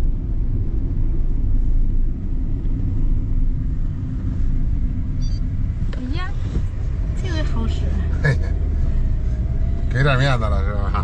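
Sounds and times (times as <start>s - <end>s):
car driving heard from inside: 0.0s - 11.0s.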